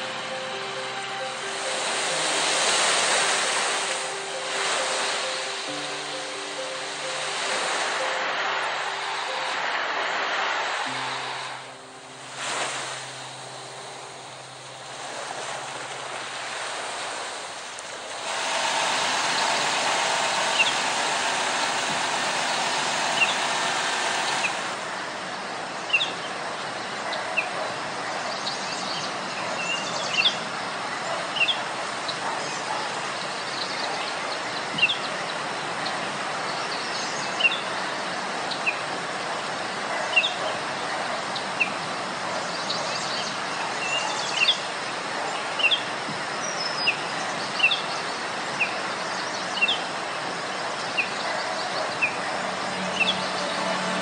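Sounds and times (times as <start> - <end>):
steady rushing noise: 0.0 - 28.2, 37.2 - 54.0.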